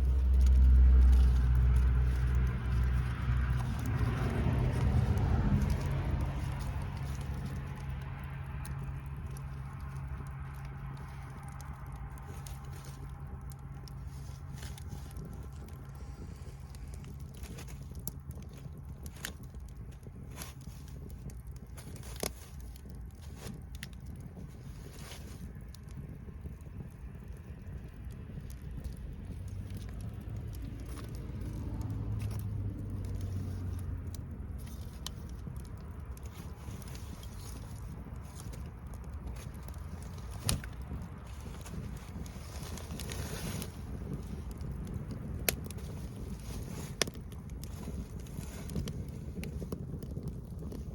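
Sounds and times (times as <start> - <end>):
low rumble: 0.0 - 50.9
wood bonfire crackling: 0.0 - 50.9.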